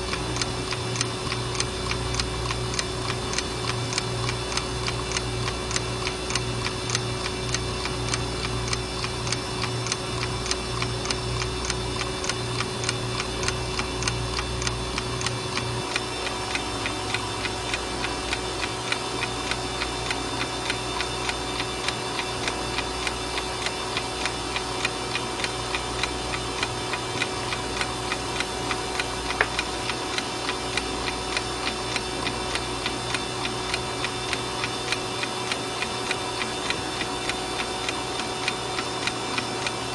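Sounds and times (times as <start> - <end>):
alarm clock ticking: 0.0 - 39.8.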